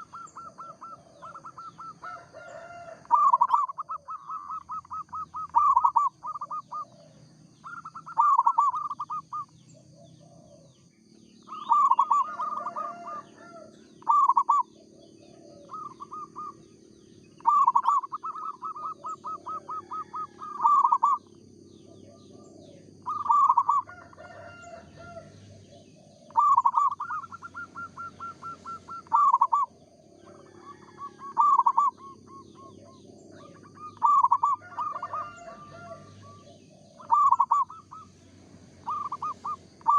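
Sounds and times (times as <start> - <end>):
doves cooing: 0.0 - 39.9
faint high-pitched whine: 0.0 - 39.9.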